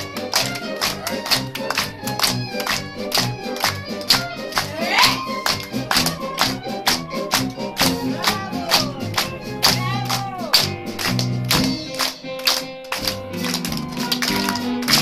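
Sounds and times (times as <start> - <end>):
dance music with sliding notes: 0.0 - 12.3.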